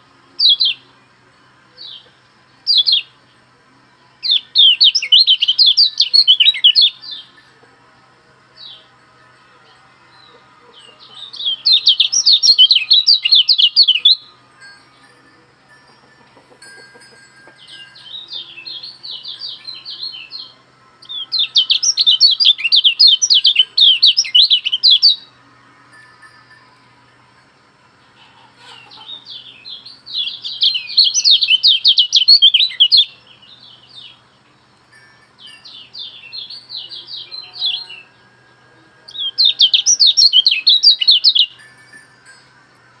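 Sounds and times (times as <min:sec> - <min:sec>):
songbird twittering song: 0:00.0 - 0:27.0, 0:27.9 - 0:43.0
faint low hum: 0:00.0 - 0:43.0.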